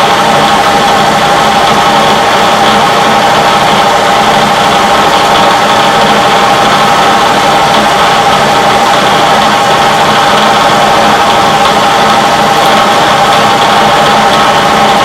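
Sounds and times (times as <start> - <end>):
machine tool motor hum and whine: 0.0 - 15.0.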